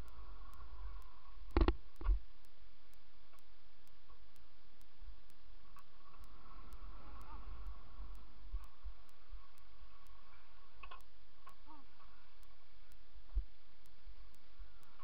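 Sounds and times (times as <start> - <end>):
faint regular ticking: 0.0 - 15.0.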